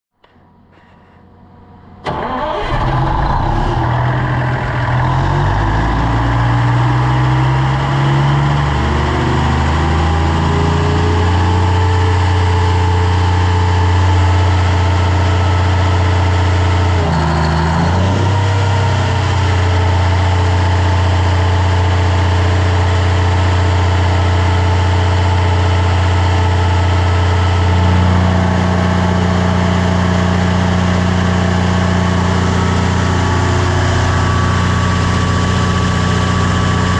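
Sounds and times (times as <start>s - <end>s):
diesel generator engine running: 0.7s - 36.9s.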